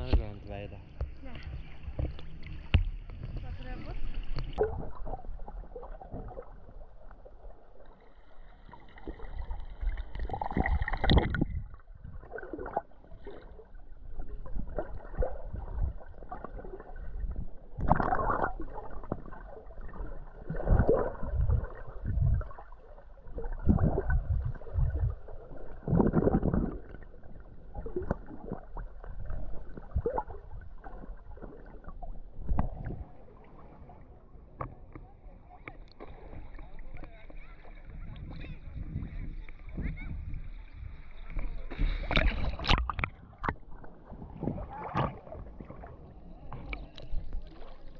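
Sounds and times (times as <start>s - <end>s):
water sloshing and gurgling: 0.0s - 47.9s.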